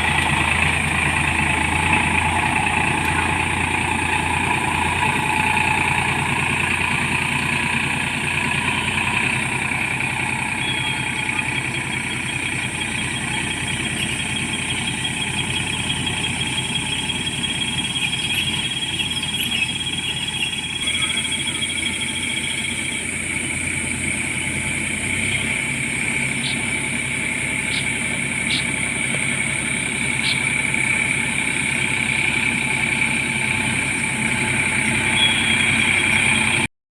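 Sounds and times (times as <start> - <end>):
tractor engine droning: 0.0 - 36.7.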